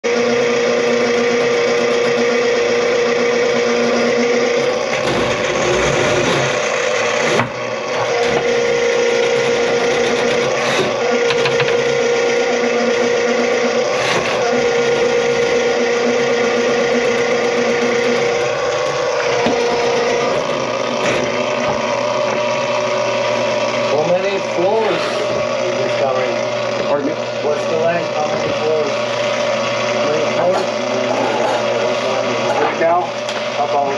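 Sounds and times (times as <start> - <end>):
drain auger motor humming: 0.0 - 33.9.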